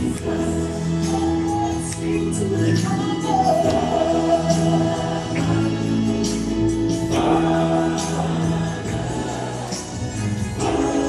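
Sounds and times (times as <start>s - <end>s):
band playing gospel music: 0.0s - 11.0s
choir singing: 0.0s - 11.0s.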